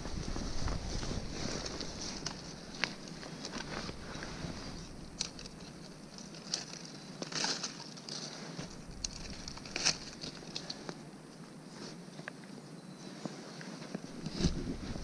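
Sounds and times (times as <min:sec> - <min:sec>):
dry leaves rustling: 0:00.0 - 0:11.2, 0:14.0 - 0:15.0.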